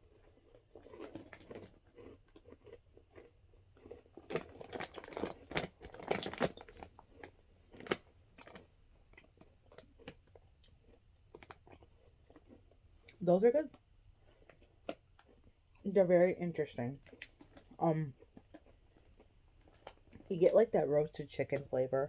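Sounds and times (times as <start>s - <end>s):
potato chips being chewed: 0.0s - 21.7s.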